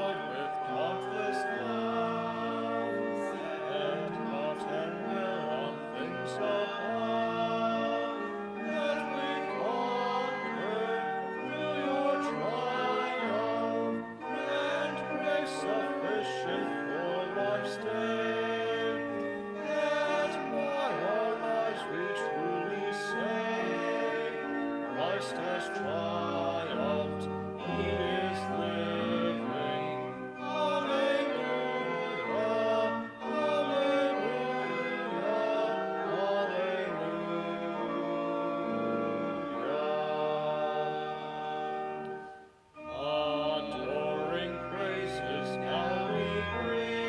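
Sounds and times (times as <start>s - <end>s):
held accompaniment chords: 0.0s - 47.0s
voices singing a hymn: 0.0s - 47.0s.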